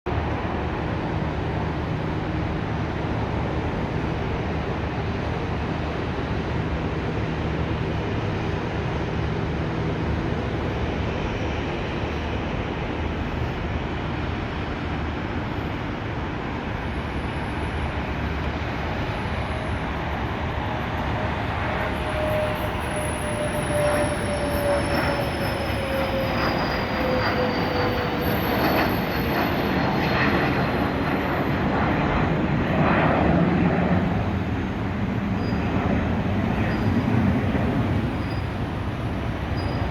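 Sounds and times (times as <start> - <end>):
distant jet engine roar: 0.1 - 39.9
jet engine whine: 0.1 - 39.9.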